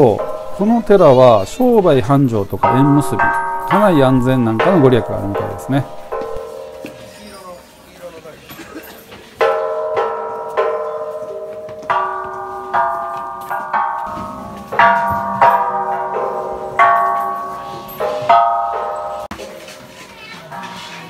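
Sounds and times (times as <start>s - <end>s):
ringing metallic gong strikes: 0.0s - 7.3s, 9.4s - 19.4s.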